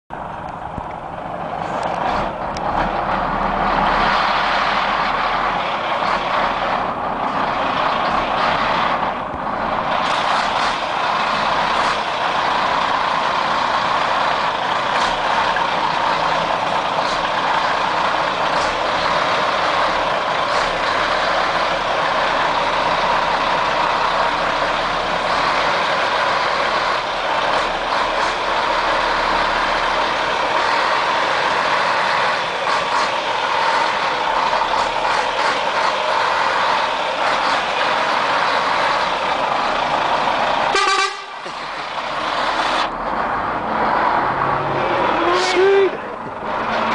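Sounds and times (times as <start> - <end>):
diesel truck engine running: 0.1 - 46.9.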